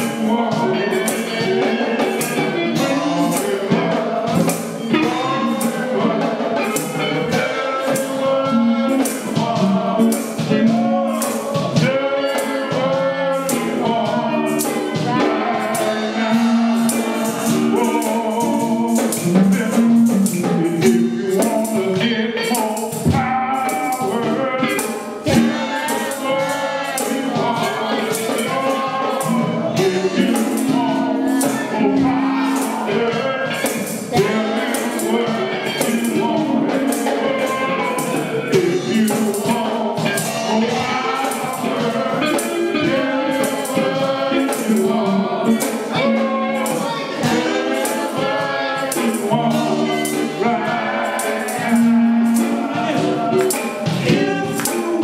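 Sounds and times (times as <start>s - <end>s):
gospel singing: 0.0s - 55.0s
tambourine and percussion beat: 0.0s - 55.0s.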